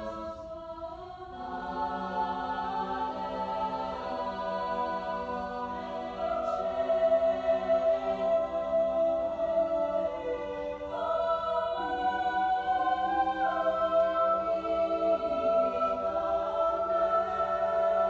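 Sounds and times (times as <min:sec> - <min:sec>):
choir singing sustained chords: 0:00.0 - 0:18.0.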